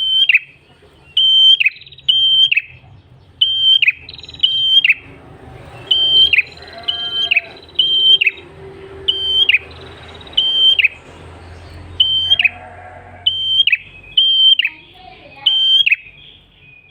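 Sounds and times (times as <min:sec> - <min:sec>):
bird calling: 0:00.0 - 0:16.9.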